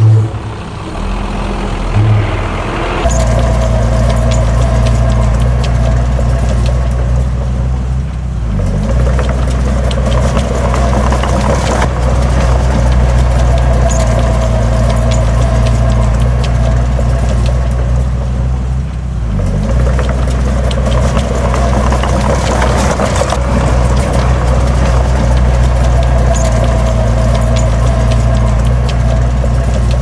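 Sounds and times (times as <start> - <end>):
heavy diesel engine running: 0.0 - 30.0
metal clanks and knocks: 2.0 - 30.0.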